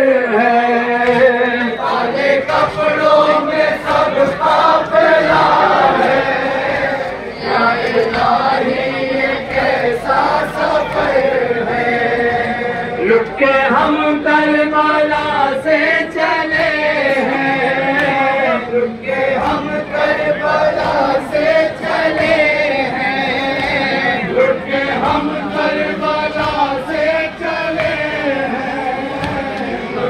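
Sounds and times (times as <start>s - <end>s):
group of men chanting a lament: 0.0s - 30.0s.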